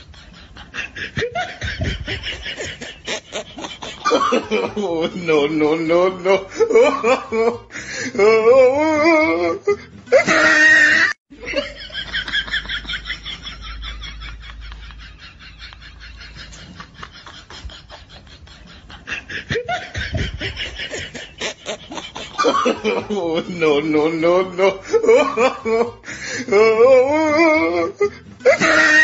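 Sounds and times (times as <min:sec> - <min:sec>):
people laughing: 0:00.0 - 0:29.0.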